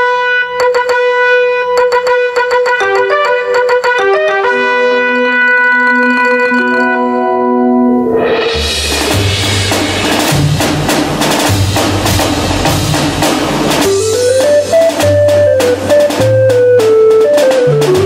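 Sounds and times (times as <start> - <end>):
stepping melody: 0.0 - 18.0
upbeat instrumental music: 0.0 - 18.0.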